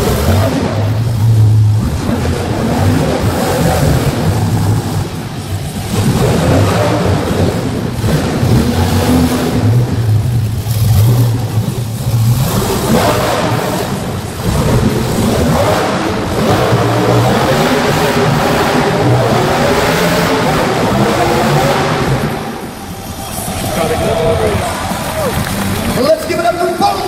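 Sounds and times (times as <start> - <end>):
monster truck engines revving: 0.0 - 27.0.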